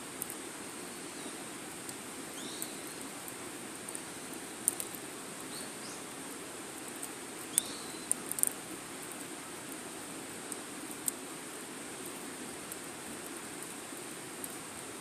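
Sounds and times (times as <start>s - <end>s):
fire crackles and pops: 0.0s - 15.0s.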